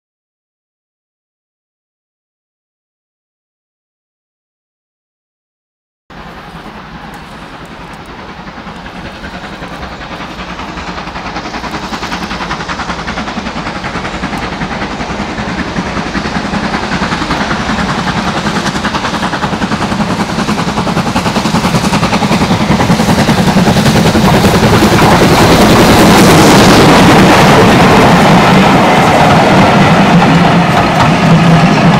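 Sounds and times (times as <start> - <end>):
steam locomotive chuffing: 6.1 - 31.9.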